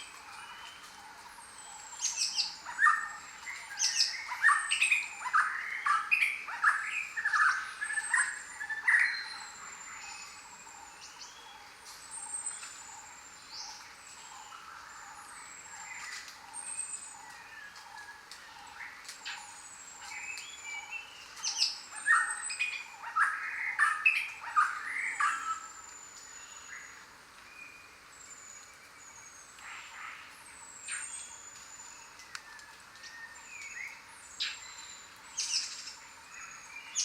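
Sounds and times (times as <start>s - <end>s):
jungle birds calling: 0.0s - 37.0s.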